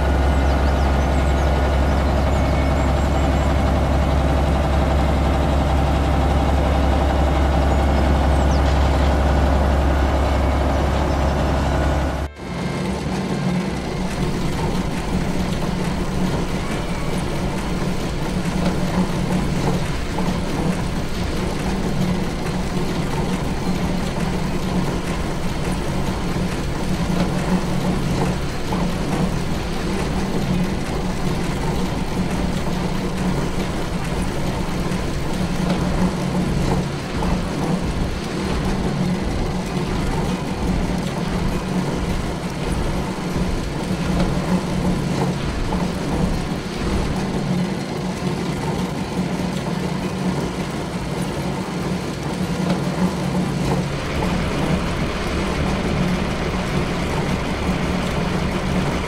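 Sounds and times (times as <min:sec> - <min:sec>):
vehicle engine running: 0:00.0 - 0:51.8, 0:52.6 - 0:59.0.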